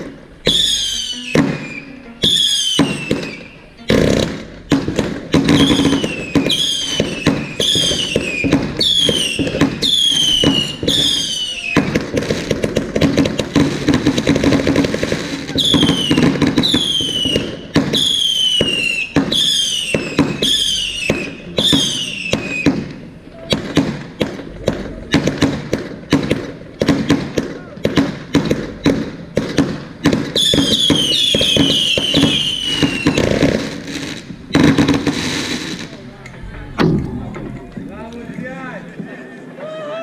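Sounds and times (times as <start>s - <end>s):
sharp firework pops: 0.0s - 36.0s
whistling firework shots: 0.0s - 36.0s
fireworks hissing and crackling: 0.0s - 40.0s.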